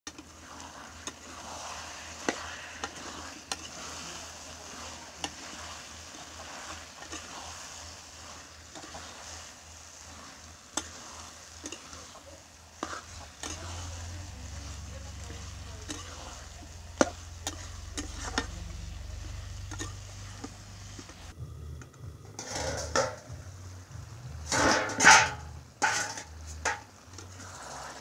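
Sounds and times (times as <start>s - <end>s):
metal spatula scraping a pan: 0.1s - 21.3s, 22.4s - 23.4s, 24.4s - 28.0s
curry sizzling in a pan: 0.1s - 21.4s, 22.3s - 28.0s.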